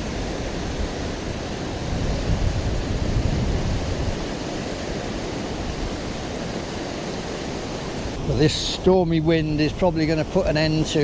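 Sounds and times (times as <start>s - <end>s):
river rushing: 0.0s - 11.0s
wind buffeting microphone: 0.0s - 11.0s.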